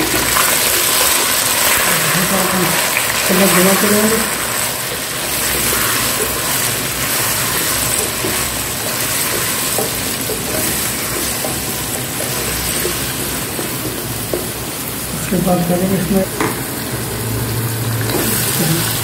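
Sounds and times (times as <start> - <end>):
potatoes sizzling in hot oil: 0.0 - 19.0.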